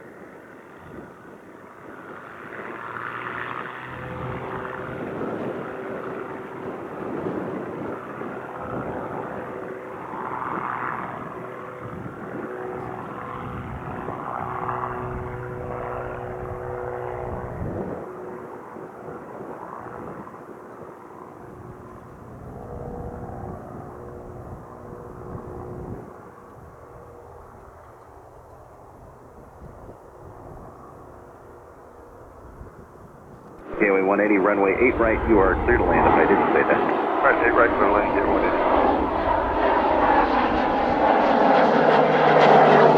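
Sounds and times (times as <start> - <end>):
airplane engine at takeoff: 0.0 - 42.9.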